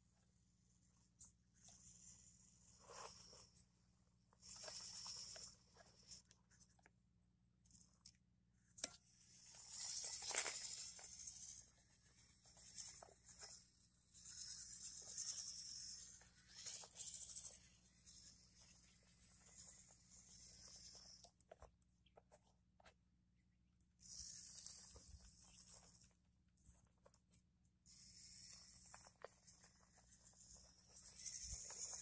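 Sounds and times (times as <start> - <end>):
toy car motor whirring: 1.0 - 3.7, 4.3 - 6.8, 8.8 - 21.7, 24.0 - 32.0.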